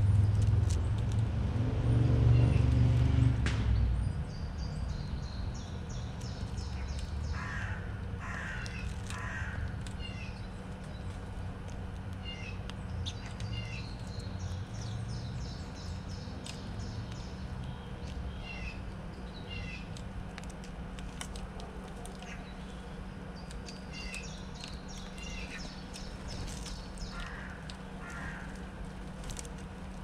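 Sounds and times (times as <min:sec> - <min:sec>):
songbirds calling: 0:00.0 - 0:30.0
steady low hum: 0:00.0 - 0:30.0.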